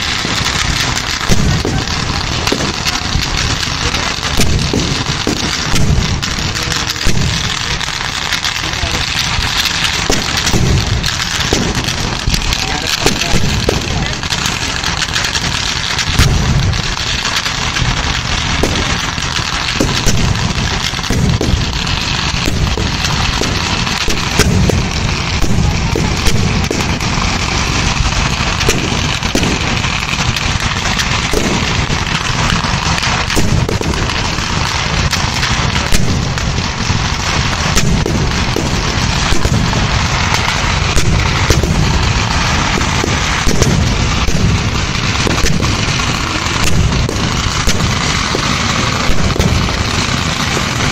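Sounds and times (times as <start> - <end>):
fireworks barrage bangs: 0.0 - 50.9.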